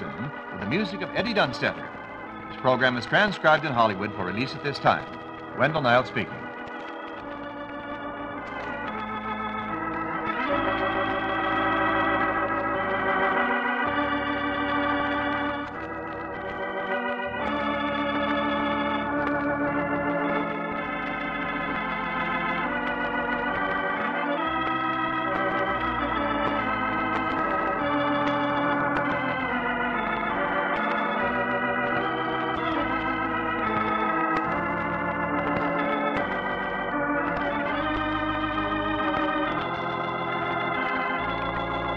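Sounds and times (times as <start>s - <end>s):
organ playing chords: 0.0s - 41.9s.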